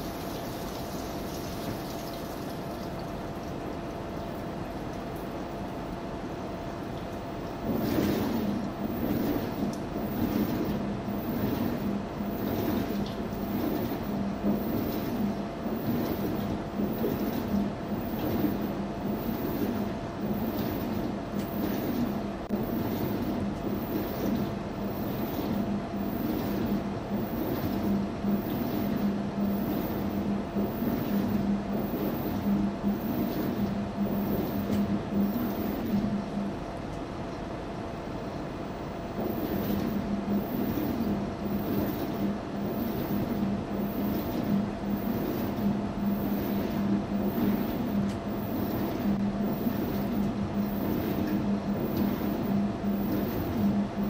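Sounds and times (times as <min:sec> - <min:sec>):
drum churning wet laundry: 0:00.0 - 0:54.0
washing machine running: 0:00.0 - 0:54.0.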